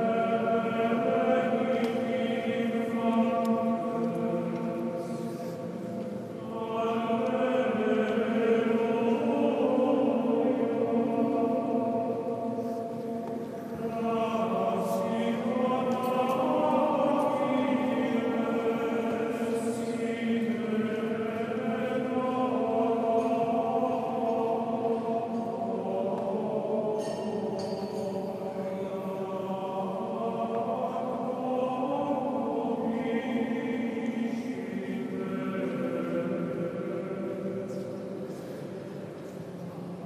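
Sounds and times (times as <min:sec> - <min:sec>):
choir singing a chant: 0:00.0 - 0:40.0.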